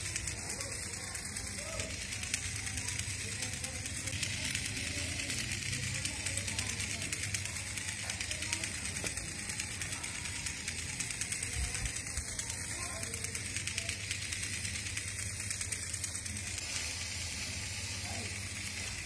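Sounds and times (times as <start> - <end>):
toy motor clicking whir: 0.0 - 19.0.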